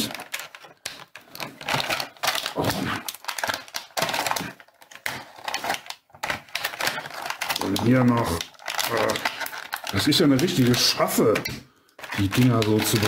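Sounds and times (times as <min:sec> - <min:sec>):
plastic packaging crackling: 0:00.0 - 0:13.0.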